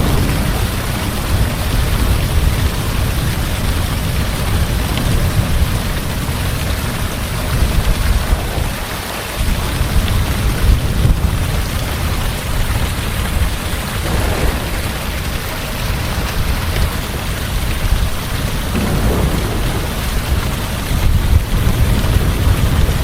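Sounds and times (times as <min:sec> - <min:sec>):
heavy rain falling: 0:00.0 - 0:23.0
low rumble of thunder: 0:00.0 - 0:23.0.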